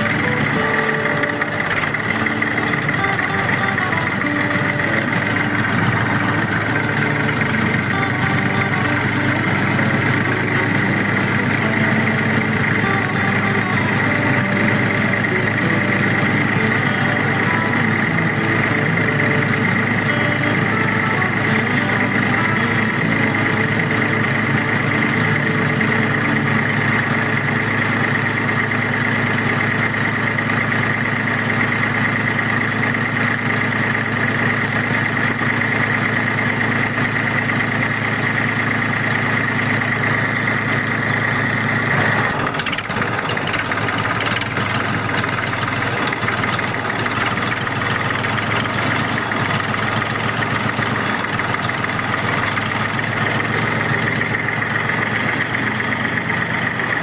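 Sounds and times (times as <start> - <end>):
high motor whine: 0.0 - 57.0
tractor motor running: 0.0 - 57.0.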